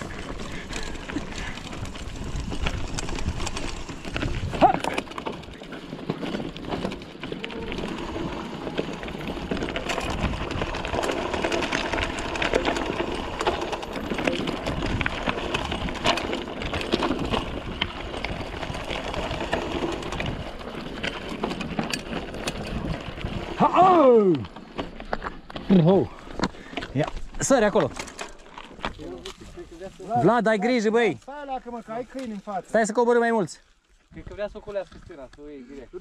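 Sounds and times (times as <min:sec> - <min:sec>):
bike rattling and clicking: 0:00.0 - 0:36.0
bike tyres on rough ground: 0:00.0 - 0:36.0.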